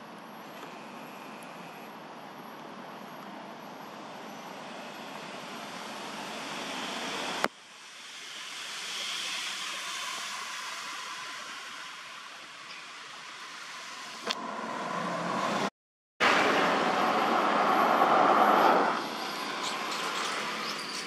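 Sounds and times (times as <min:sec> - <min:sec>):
rushing outdoor background noise: 0:00.0 - 0:21.0.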